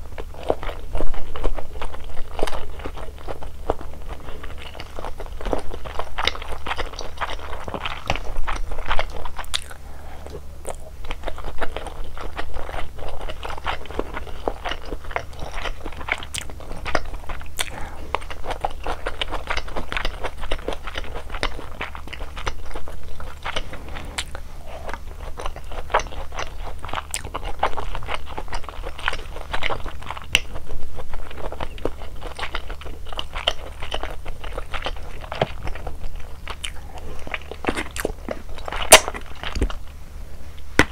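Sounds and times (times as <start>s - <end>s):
crunching and chewing food: 0.0s - 40.9s
steady low hum: 0.0s - 40.9s.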